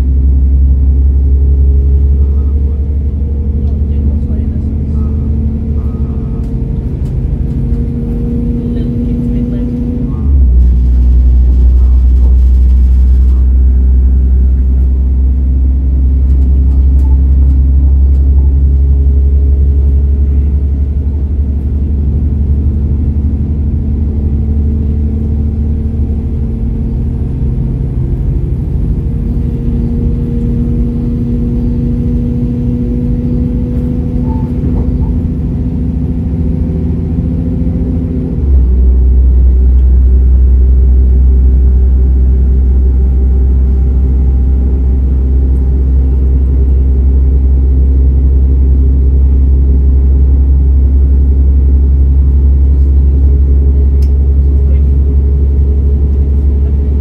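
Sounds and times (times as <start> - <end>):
diesel train engine drone: 0.0 - 57.0
transmission whine: 0.0 - 57.0.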